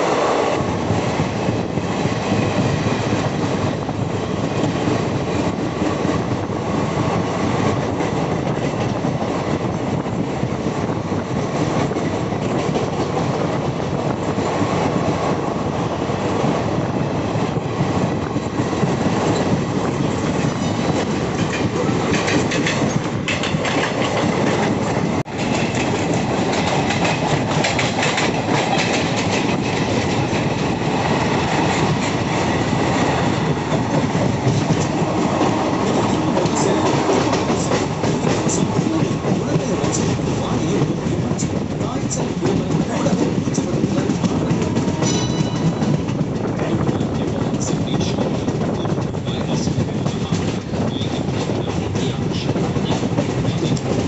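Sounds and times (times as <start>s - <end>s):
train wheels clattering over rail joints: 0.6s - 54.0s.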